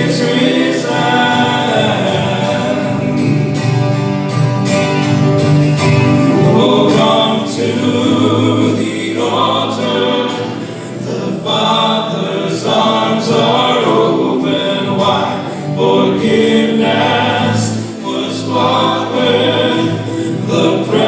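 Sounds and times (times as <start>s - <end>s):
group singing worship song: 0.0s - 4.4s, 5.6s - 21.0s
backing instruments: 0.0s - 21.0s.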